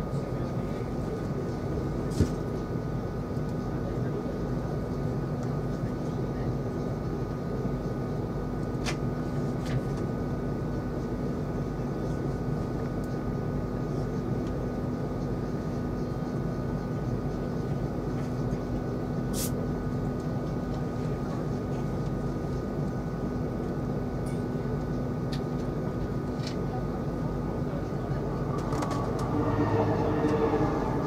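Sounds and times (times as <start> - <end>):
electric train interior hum: 0.0 - 31.0.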